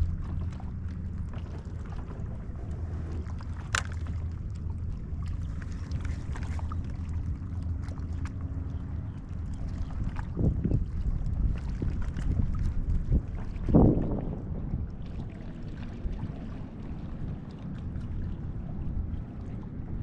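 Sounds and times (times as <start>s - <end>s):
water noise: 0.0s - 20.0s
wind rumble on microphone: 0.0s - 20.0s.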